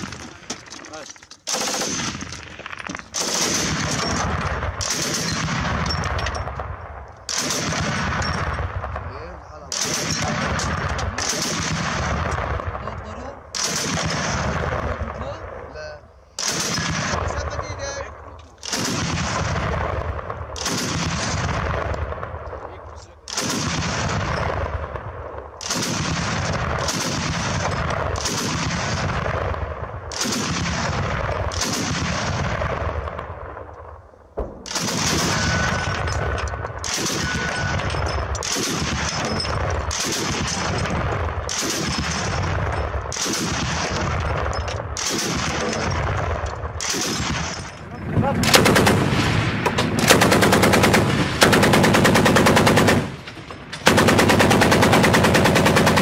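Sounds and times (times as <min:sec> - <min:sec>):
heavy machine gun firing: 0:00.0 - 0:06.7, 0:07.3 - 0:08.9, 0:09.7 - 0:12.8, 0:13.5 - 0:15.2, 0:16.4 - 0:17.6, 0:18.6 - 0:22.2, 0:23.3 - 0:25.0, 0:25.6 - 0:33.2, 0:34.5 - 0:56.0.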